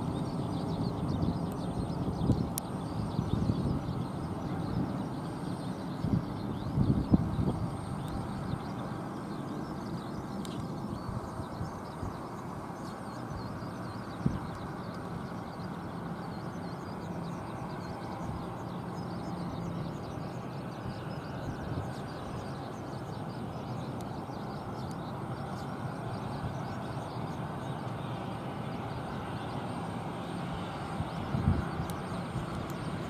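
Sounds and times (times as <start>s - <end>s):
faint birds chirping: 0.0s - 33.0s
turboprop airliner droning: 0.0s - 33.0s.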